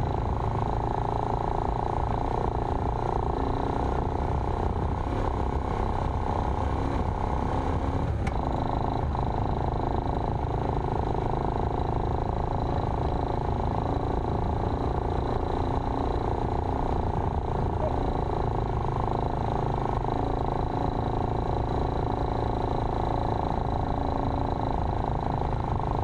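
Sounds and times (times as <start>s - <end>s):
vehicle engine and tyre drone: 0.0s - 26.0s.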